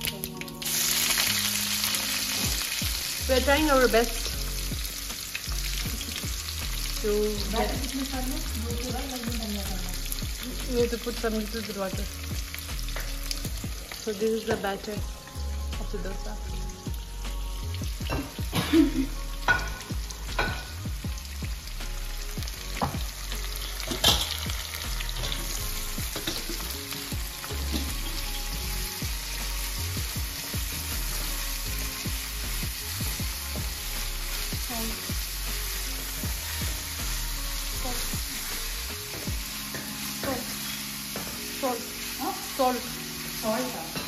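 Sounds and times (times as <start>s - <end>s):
food sizzling in oil: 0.0s - 44.0s.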